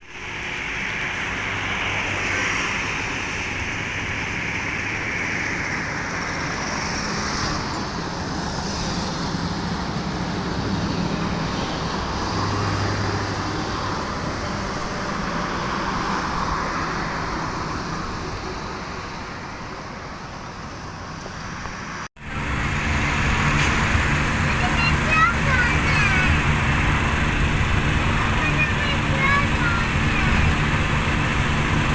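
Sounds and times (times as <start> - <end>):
diesel truck engine cruising: 0.0 - 31.9
tyre and road noise: 0.0 - 31.9.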